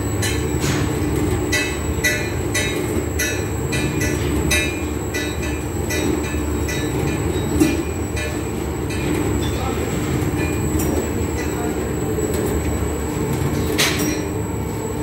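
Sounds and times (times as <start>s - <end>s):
mixer drive hum: 0.0s - 15.0s.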